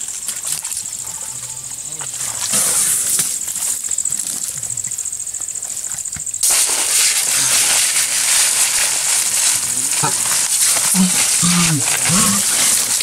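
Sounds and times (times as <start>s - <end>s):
high hiss: 0.0s - 13.0s
insect chirring: 0.0s - 13.0s.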